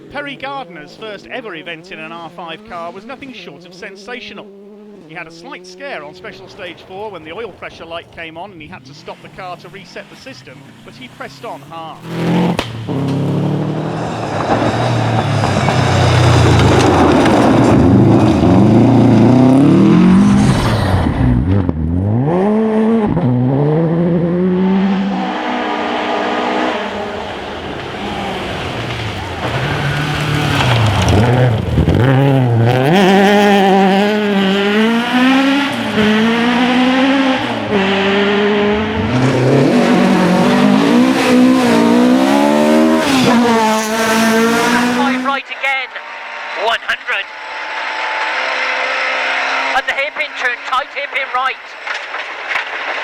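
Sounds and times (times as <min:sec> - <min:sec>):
rally car engine revving: 0:00.0 - 0:53.0
tyre and road noise: 0:00.0 - 0:53.0.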